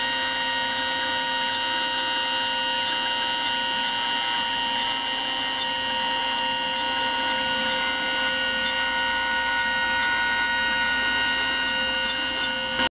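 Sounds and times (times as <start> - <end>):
router spindle whining: 0.0 - 12.9.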